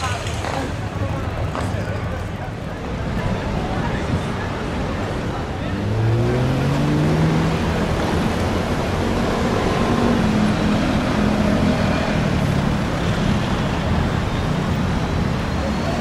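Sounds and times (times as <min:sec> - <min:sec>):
car and bus engines passing: 0:00.0 - 0:16.0
constant traffic rumble: 0:00.0 - 0:16.0.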